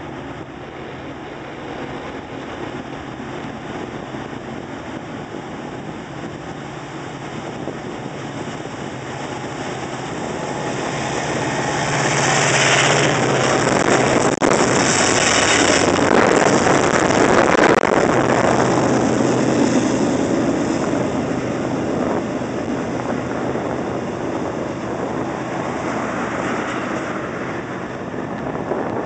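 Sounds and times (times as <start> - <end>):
diesel locomotives passing: 0.0 - 29.0.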